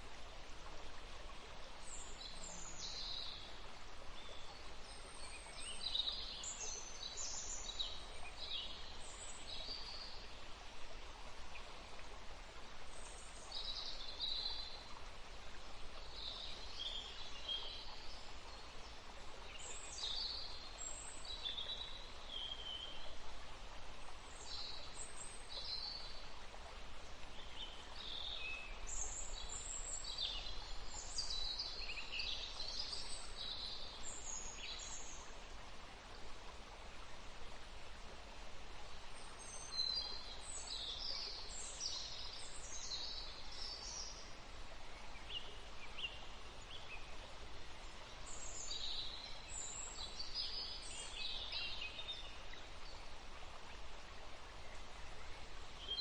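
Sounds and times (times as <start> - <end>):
steady background hiss: 0.0 - 56.0.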